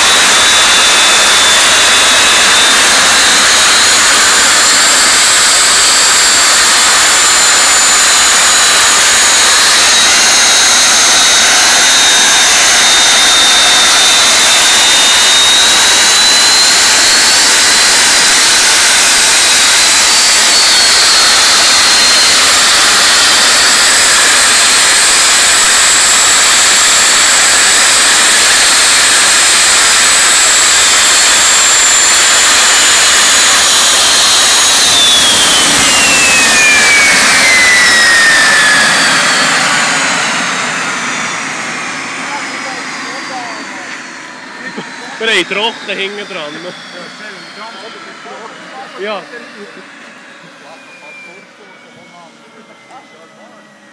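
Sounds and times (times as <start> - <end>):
jet exhaust rush: 0.0 - 53.9
turbine whine: 0.0 - 53.9.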